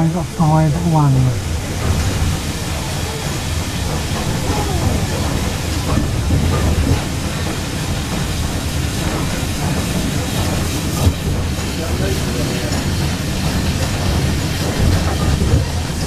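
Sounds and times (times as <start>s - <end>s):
train coach rumbling on track: 0.0s - 16.0s
wheels clicking over rail joints: 1.5s - 16.0s.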